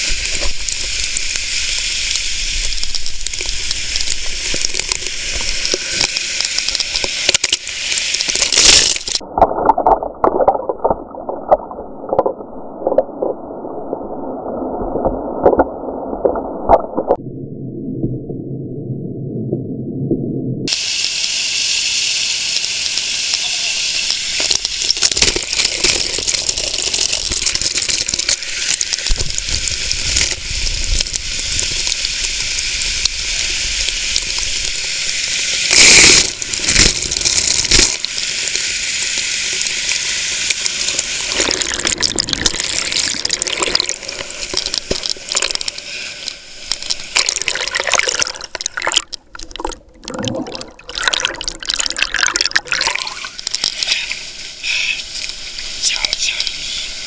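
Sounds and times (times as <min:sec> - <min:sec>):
water splashing on camera: 0:00.0 - 0:14.1, 0:22.4 - 0:56.7.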